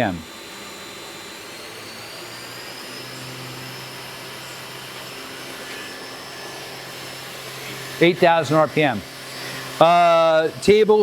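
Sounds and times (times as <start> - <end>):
machine spindle whine: 0.0 - 11.0.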